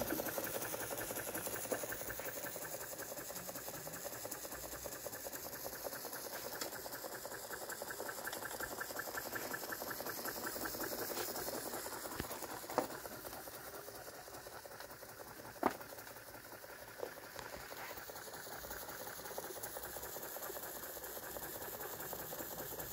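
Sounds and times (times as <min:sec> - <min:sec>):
sharp mechanical clicks: 0:00.0 - 0:22.9
toy steam engine running: 0:00.0 - 0:22.9.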